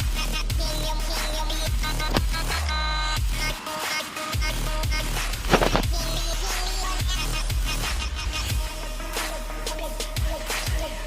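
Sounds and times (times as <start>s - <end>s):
electronic music with bass beat: 0.0s - 11.0s.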